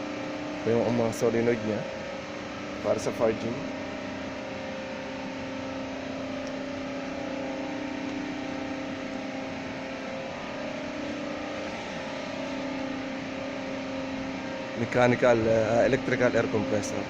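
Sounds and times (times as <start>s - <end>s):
power plant machinery hum: 0.0s - 17.0s.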